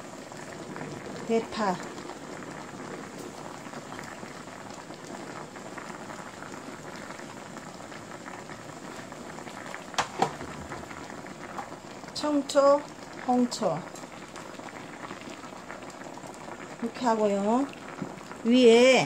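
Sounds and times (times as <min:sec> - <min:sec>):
liquid simmering in a wok: 0:00.0 - 0:19.0.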